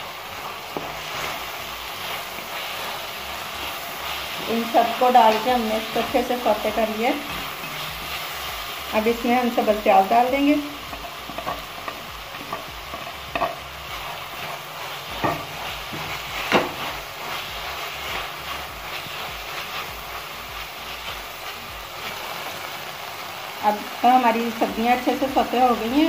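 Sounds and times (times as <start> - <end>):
vegetables sizzling in a pan: 0.0 - 26.0
spatula scraping a pan: 0.4 - 22.3.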